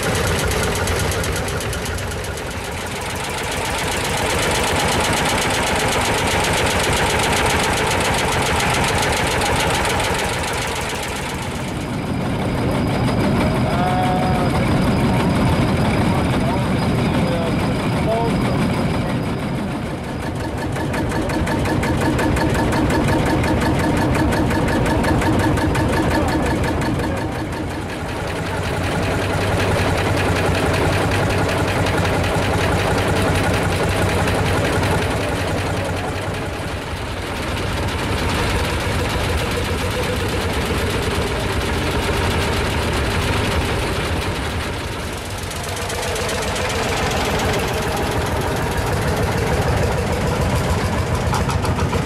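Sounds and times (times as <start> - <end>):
diesel tractor engines idling: 0.0 - 52.0.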